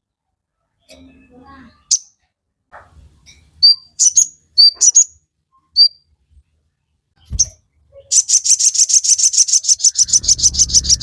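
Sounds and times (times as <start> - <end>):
songbird chirping and trilling: 0.2 - 2.3, 3.0 - 11.0.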